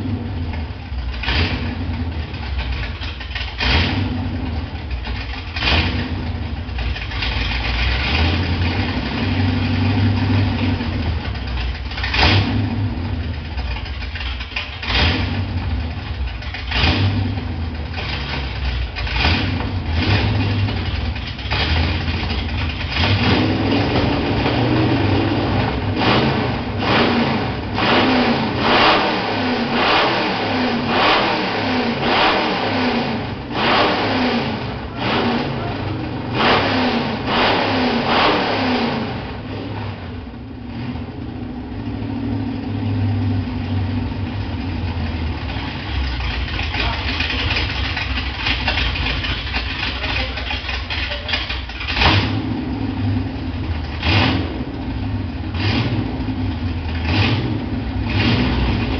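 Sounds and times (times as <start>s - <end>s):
car engine revving and idling: 0.0s - 58.9s.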